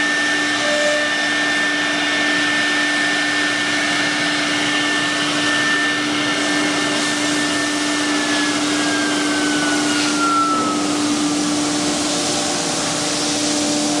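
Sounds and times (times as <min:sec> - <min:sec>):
high whine sliding down: 0:00.0 - 0:14.0
router and dust extraction running: 0:00.0 - 0:14.0.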